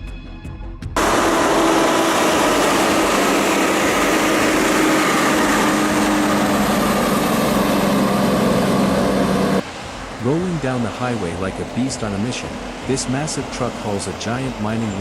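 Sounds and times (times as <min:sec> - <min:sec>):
loud rushing noise: 0:01.0 - 0:15.0
tractor engine running: 0:01.0 - 0:15.0.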